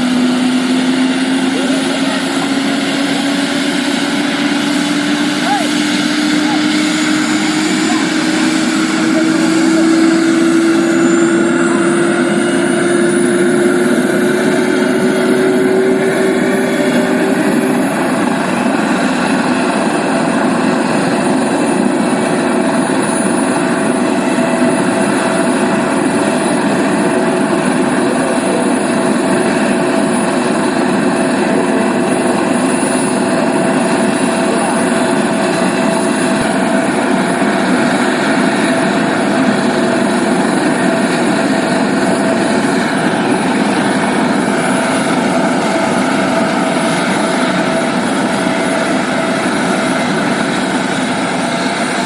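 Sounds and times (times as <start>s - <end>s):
helicopter turbine and rotor: 0.0s - 52.0s.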